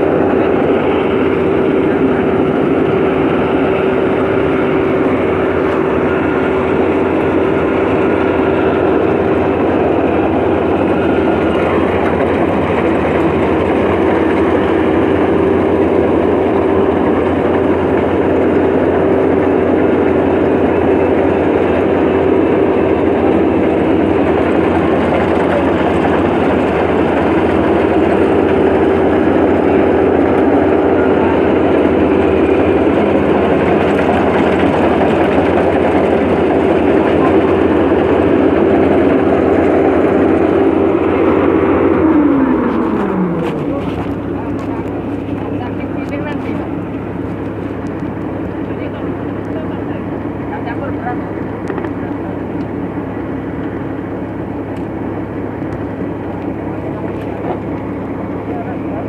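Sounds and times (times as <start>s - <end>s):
combine harvester diesel drone: 0.0s - 59.0s
machine whine: 0.0s - 59.0s.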